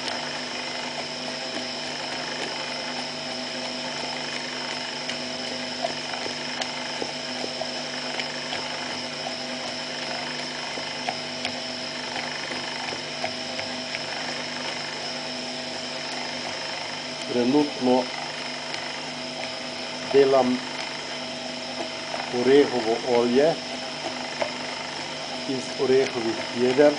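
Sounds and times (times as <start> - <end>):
electric motor hum and whine: 0.0 - 26.9.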